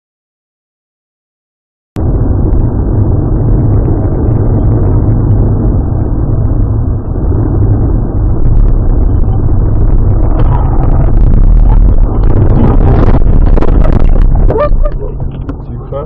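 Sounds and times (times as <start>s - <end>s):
muffled car engine and road noise: 2.0s - 16.0s.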